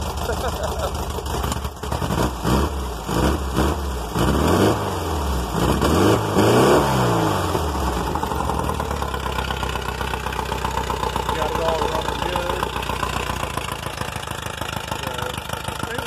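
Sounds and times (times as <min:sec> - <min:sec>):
car engine revving: 0:01.2 - 0:16.0.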